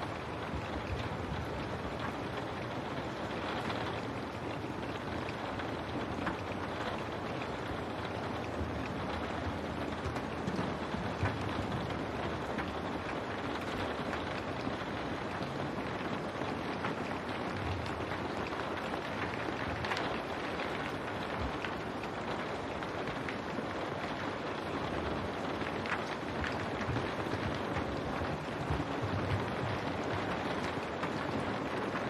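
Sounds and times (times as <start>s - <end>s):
heavy rain on window glass: 0.0s - 32.0s.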